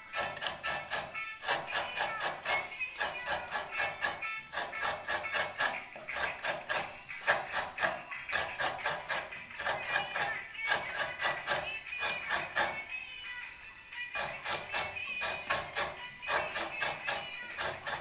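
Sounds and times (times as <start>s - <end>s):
metal scraper scraping coconut: 0.0s - 13.0s, 14.0s - 18.0s.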